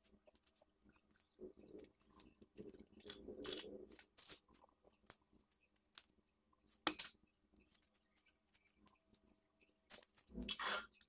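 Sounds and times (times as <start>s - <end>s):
rustle of craft materials: 0.0s - 11.0s.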